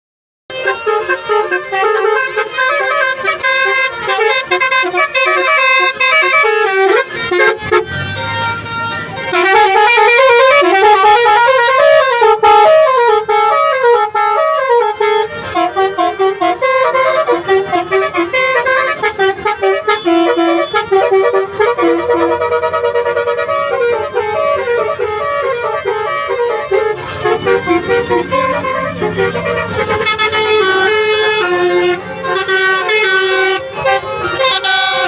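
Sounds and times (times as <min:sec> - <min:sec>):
multi-tone musical horn playing tune: 0:00.5 - 0:35.0.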